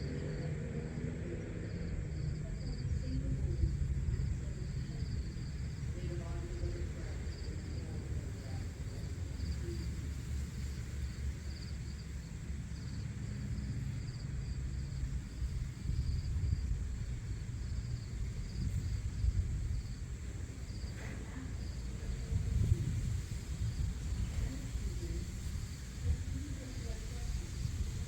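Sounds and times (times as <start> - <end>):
insects chirping: 0.0 - 28.0
low wind rumble: 0.0 - 28.0.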